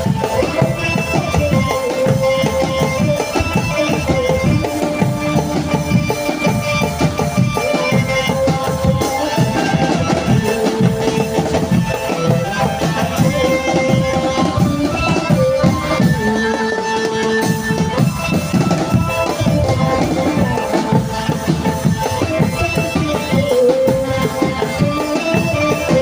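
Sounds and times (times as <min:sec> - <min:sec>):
drums beating fast rhythm: 0:00.0 - 0:26.0
melody in long held notes: 0:00.0 - 0:26.0.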